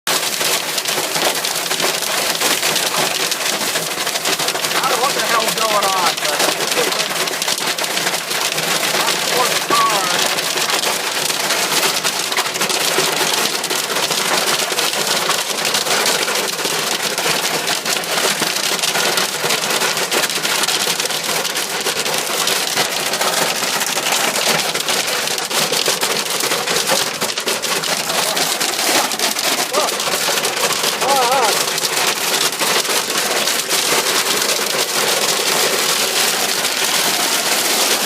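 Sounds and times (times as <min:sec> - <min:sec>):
hail pelting a car: 0:00.1 - 0:38.0.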